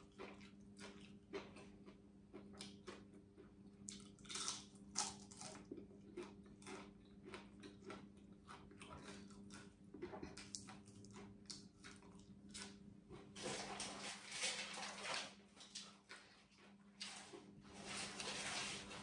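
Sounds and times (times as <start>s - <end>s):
crunching and chewing: 0.0s - 19.0s
low electrical hum: 0.0s - 19.0s.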